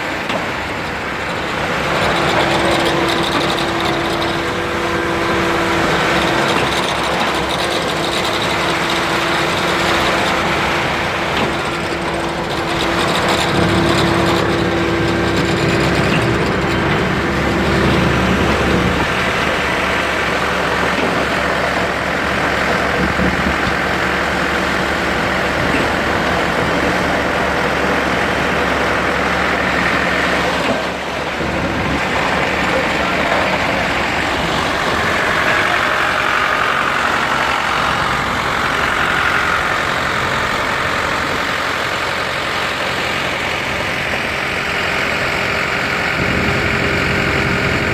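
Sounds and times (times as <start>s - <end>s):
engines running: 0.0s - 47.9s
street noise: 0.0s - 47.9s
voices: 0.0s - 47.9s.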